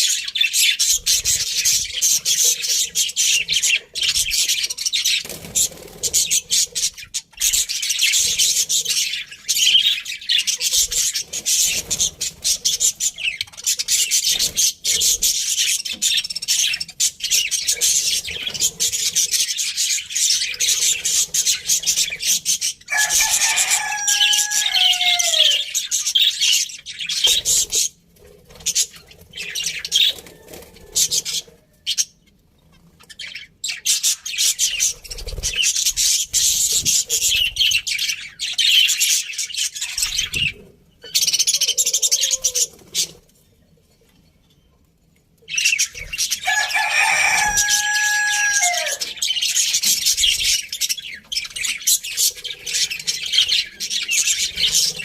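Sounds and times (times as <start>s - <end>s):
budgerigars chirping and chattering: 0.0s - 43.2s, 45.5s - 55.0s.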